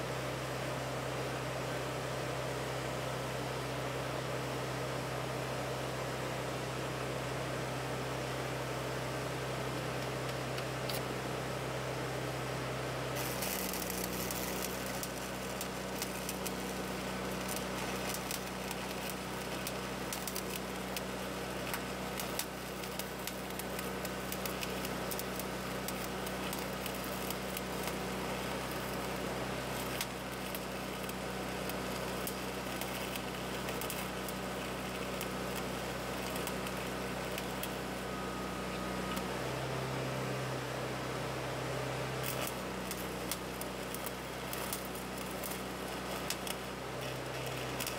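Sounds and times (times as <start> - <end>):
welder engine humming: 0.0 - 47.9
welding arc crackling and hissing: 7.0 - 47.9.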